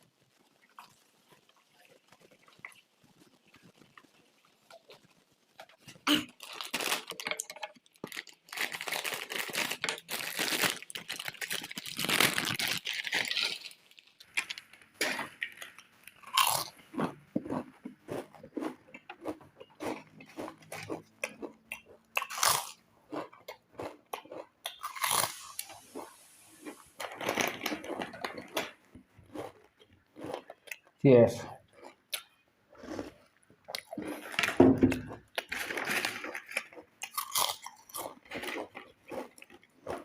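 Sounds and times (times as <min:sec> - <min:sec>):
chewing crunchy chips: 0:00.0 - 0:40.0.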